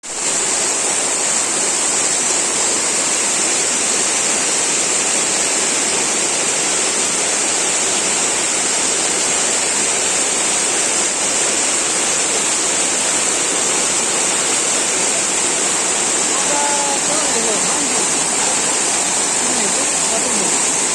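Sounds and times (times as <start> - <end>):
waterfall rushing: 0.1 - 20.9
high-pitched hiss: 3.4 - 20.9.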